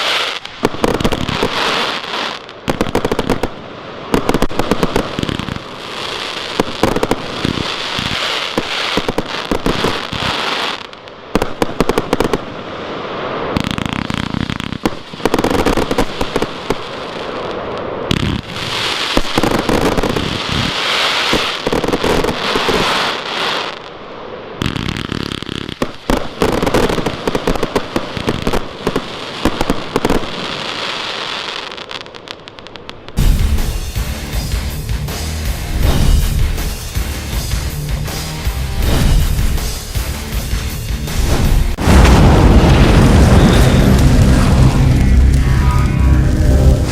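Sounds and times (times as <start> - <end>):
firework crackling and bangs: 0.0 - 23.9, 24.6 - 46.9.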